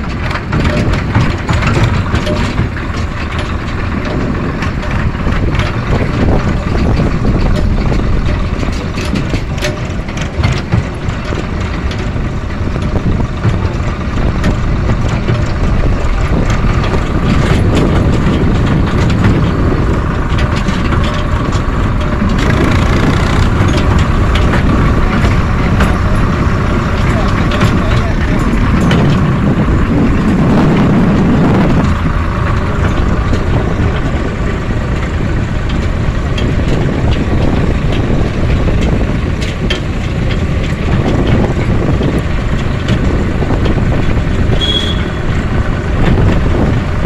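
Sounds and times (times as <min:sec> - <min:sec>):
small clicks and rattles: 0:00.0 - 0:47.0
vehicle engine and road rumble: 0:00.0 - 0:47.0.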